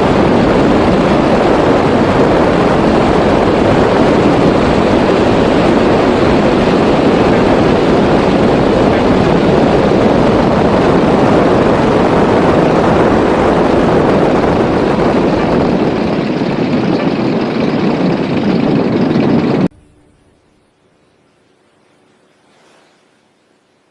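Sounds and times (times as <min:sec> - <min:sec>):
airplane engine and propeller roar: 0:00.0 - 0:19.7.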